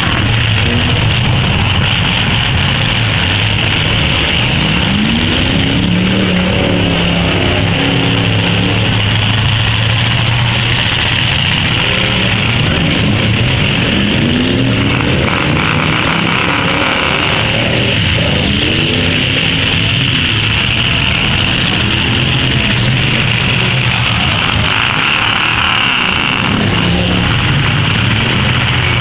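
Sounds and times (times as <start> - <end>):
car engines revving loudly: 0.0 - 29.0.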